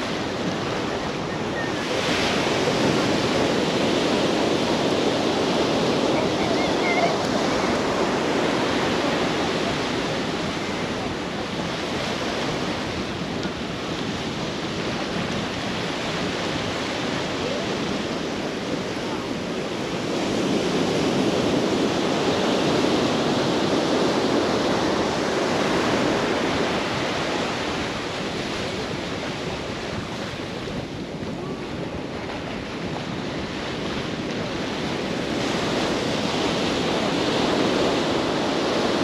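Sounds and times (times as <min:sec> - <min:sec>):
sea surf breaking: 0:00.0 - 0:39.0.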